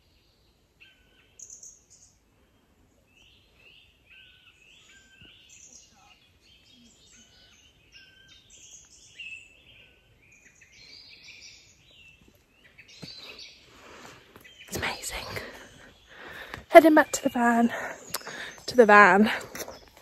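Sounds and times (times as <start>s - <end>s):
faint songbirds singing: 0.0s - 20.0s.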